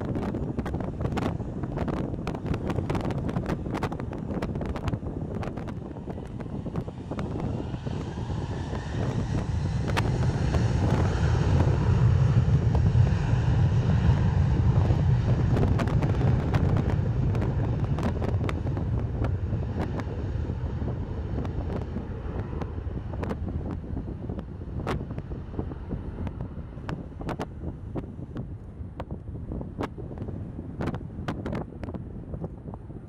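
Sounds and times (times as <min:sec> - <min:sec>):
jet engines at takeoff thrust: 0:00.0 - 0:33.0
wind buffeting microphone: 0:00.0 - 0:33.0.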